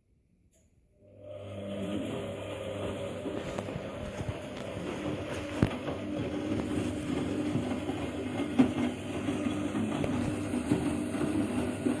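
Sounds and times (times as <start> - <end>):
washing machine drum rumble: 1.9 - 12.0.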